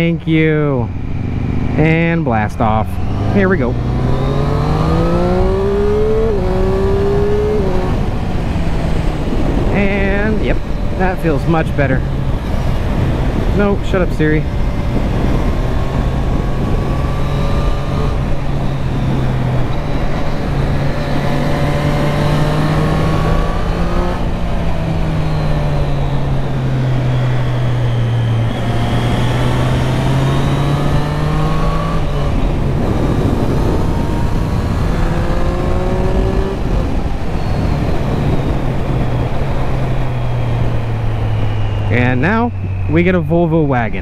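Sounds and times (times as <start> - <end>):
motorcycle engine revving: 0.0 - 44.0
wind rushing over microphone: 0.0 - 44.0.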